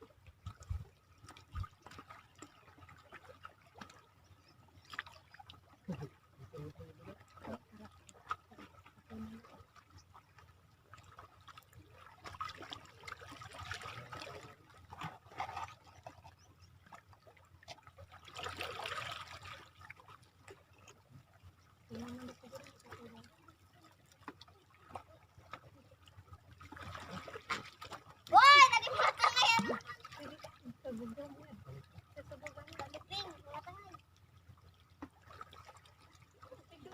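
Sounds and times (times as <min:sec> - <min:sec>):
water trickling and lapping: 0:00.0 - 0:36.9.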